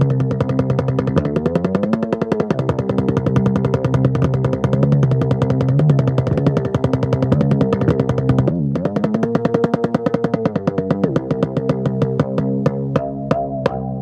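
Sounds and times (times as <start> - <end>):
electronic drum strokes: 0.0 - 14.0.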